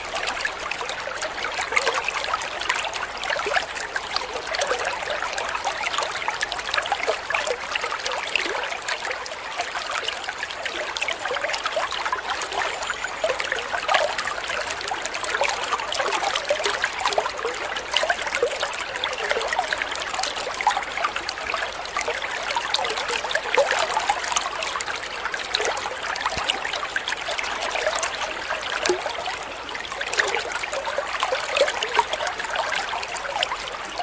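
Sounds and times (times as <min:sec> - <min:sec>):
stream trickling and babbling: 0:00.0 - 0:34.0.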